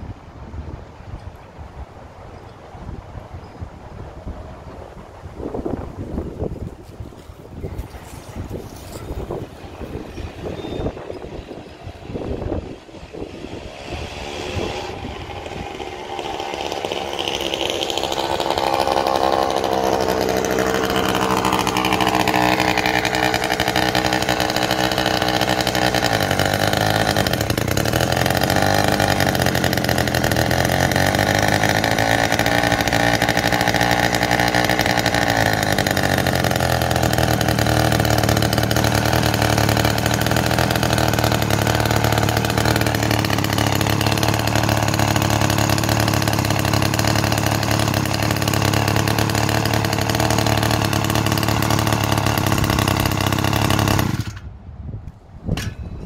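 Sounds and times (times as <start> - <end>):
small gasoline engine running: 6.9 - 54.5.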